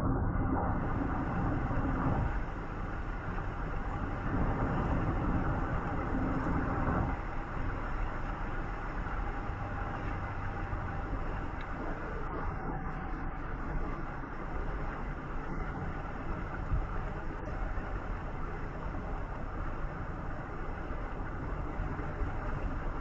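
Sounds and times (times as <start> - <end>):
low hum: 0.0 - 23.0
vehicle rumble with road hiss: 0.0 - 23.0.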